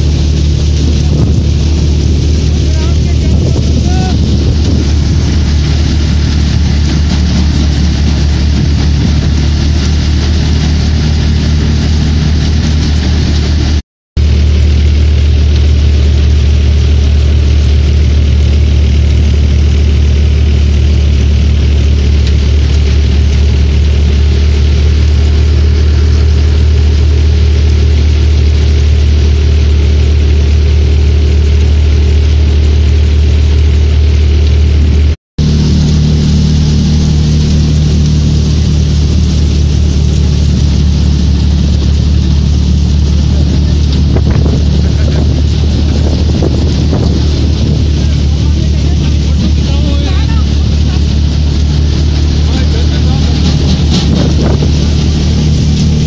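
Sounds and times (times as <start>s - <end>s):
low engine hum: 0.0s - 56.0s
threshing drum and fan: 0.0s - 56.0s.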